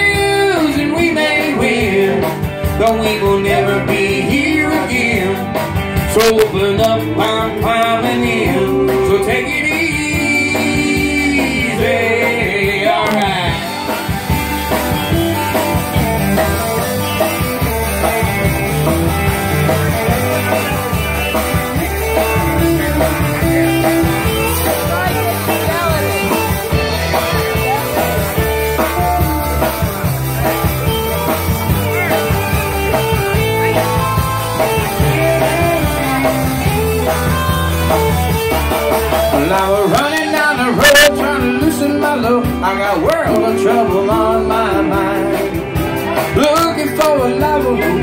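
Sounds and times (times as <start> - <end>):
electric guitar lead bending notes: 0.0 - 48.0
live rock band: 0.0 - 48.0.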